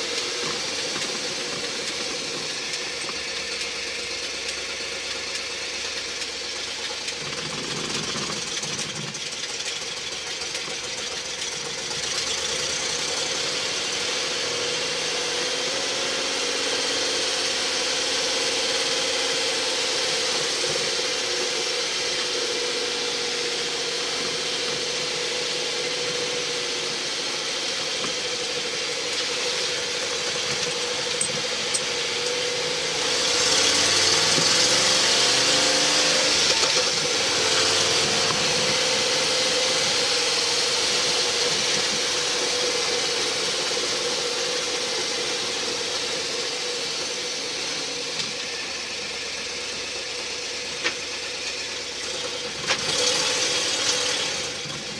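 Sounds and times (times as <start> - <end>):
engine running while driving: 0.0 - 54.9.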